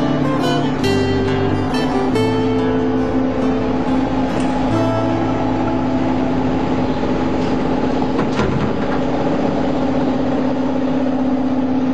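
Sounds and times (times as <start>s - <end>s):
steady machine hum: 0.0s - 11.9s.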